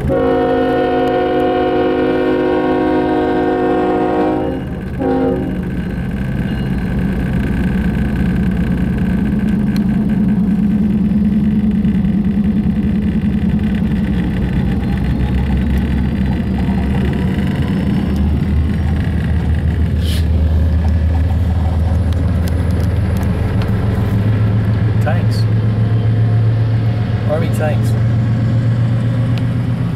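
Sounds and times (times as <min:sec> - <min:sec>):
diesel locomotives rumbling: 0:00.0 - 0:29.9.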